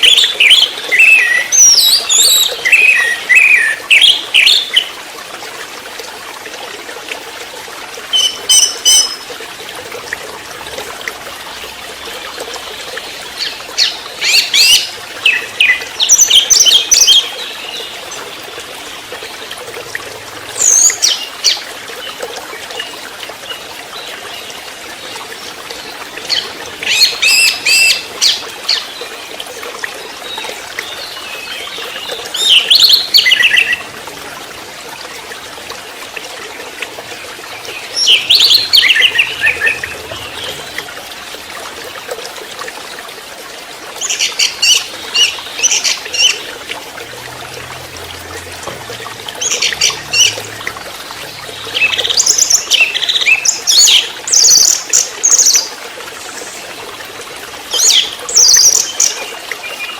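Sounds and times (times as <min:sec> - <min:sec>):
trickle of water: 0:00.0 - 0:59.9.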